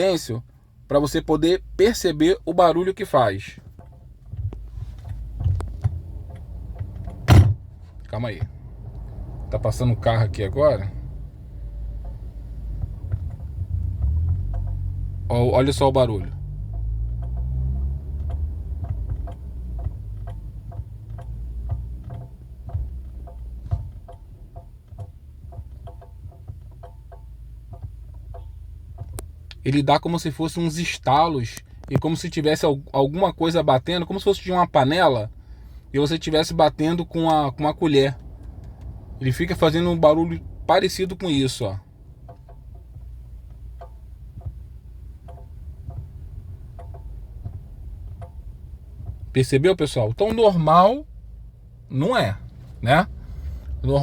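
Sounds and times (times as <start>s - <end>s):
low cabin rumble: 0.0s - 54.0s
light clicks and taps: 1.0s - 7.3s, 7.9s - 50.9s.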